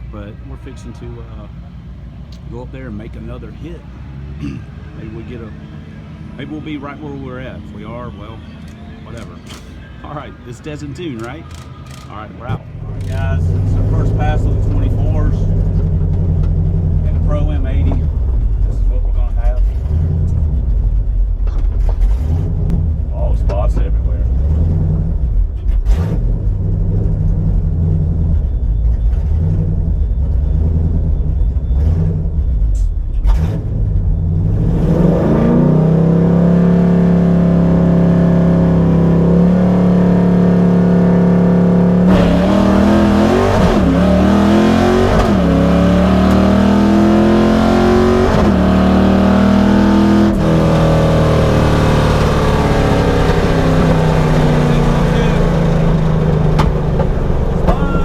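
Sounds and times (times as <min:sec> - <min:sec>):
car engine revving through gears: 0:02.3 - 0:58.0.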